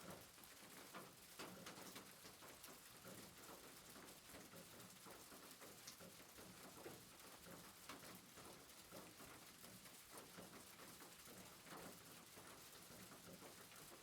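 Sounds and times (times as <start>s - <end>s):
soft rain hiss: 0.0s - 14.0s.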